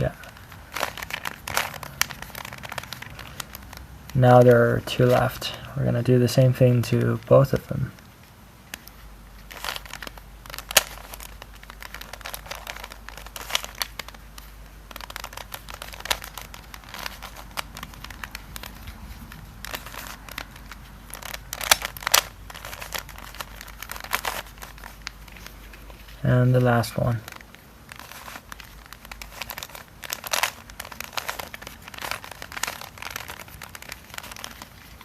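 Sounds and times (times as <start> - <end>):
plastic puzzle cube clicking: 0.0 - 5.3, 8.7 - 26.2, 27.0 - 35.0.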